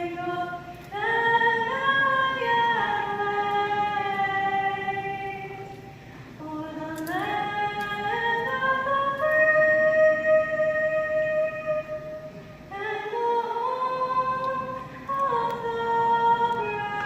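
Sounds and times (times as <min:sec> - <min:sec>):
slow sung melody: 0:00.0 - 0:17.0.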